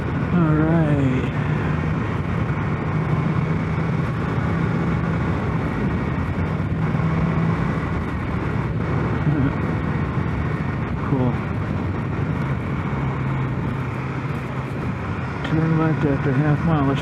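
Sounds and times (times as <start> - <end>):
motorcycle engine humming: 0.0 - 17.0
wind and road noise: 0.0 - 17.0.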